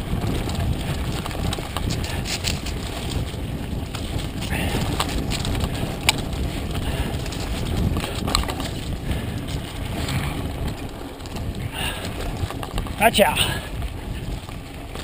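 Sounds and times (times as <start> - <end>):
bike rattling: 0.0 - 15.0
tyres rumbling on dirt: 0.0 - 15.0
wind buffeting microphone: 0.0 - 15.0.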